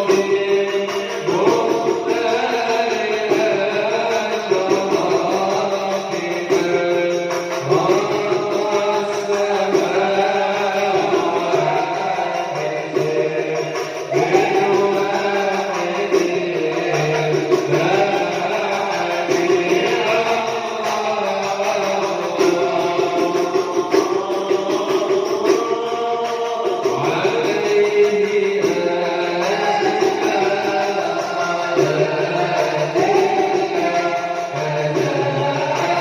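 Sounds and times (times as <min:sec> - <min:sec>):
man singing devotional song: 0:00.0 - 0:36.0
musical accompaniment: 0:00.0 - 0:36.0.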